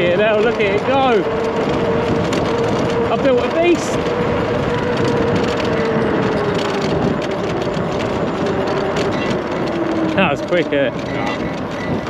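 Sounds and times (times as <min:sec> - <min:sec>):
electric motor whine: 0:00.0 - 0:12.0
tyre noise: 0:00.0 - 0:12.0
wind noise: 0:00.0 - 0:12.0.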